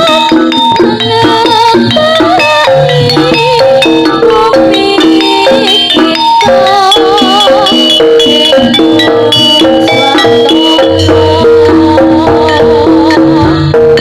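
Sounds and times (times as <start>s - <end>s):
drums: 0.0s - 14.0s
metal percussion ensemble melody: 0.0s - 14.0s.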